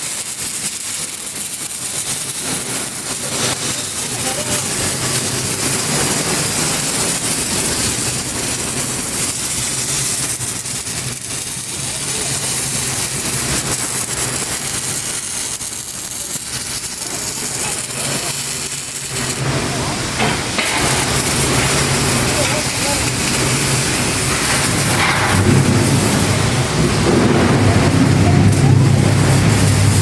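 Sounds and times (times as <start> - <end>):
arc welding hissing crackle: 0.0 - 30.0.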